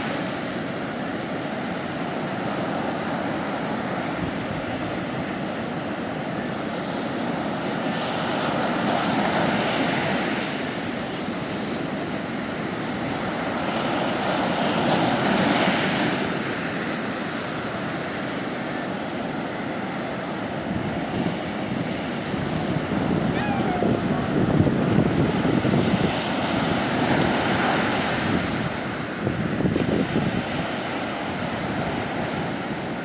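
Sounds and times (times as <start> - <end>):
sea waves breaking on beach: 0.0 - 33.0.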